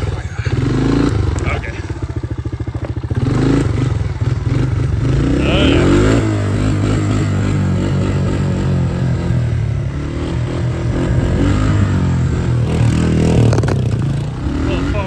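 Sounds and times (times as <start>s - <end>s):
three-wheeler engine running: 0.0s - 15.0s.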